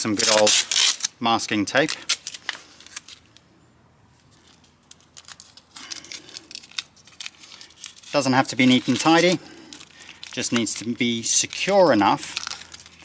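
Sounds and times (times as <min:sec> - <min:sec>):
masking tape crinkling and tearing: 0:00.0 - 0:03.4, 0:04.2 - 0:13.0.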